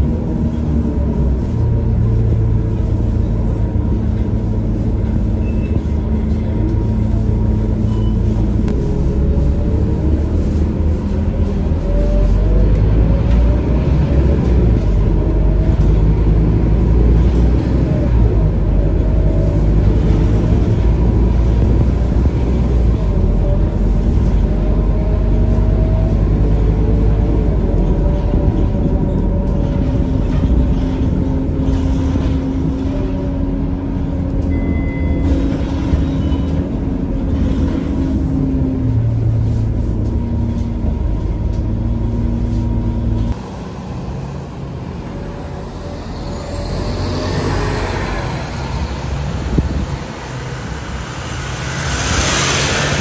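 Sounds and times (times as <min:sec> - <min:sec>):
bus engine drone and whine: 0:00.0 - 0:53.0
road traffic: 0:00.0 - 0:53.0.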